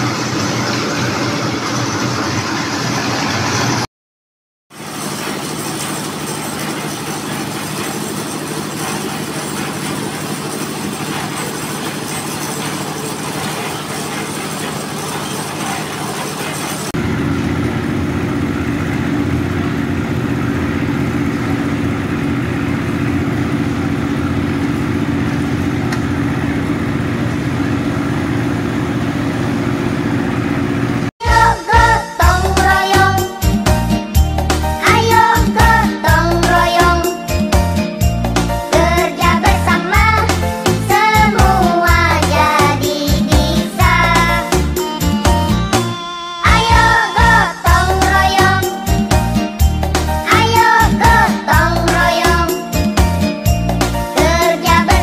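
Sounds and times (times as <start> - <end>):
concrete mixer engine running: 0.0 - 3.9, 4.7 - 55.0.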